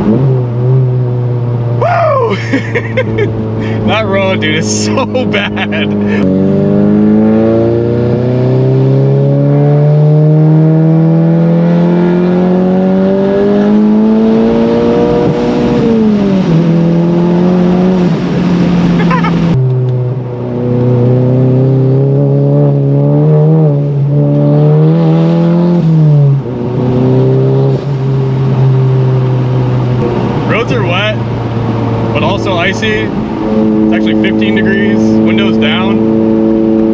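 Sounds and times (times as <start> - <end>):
turbocharged car engine under load: 0.0 - 36.9.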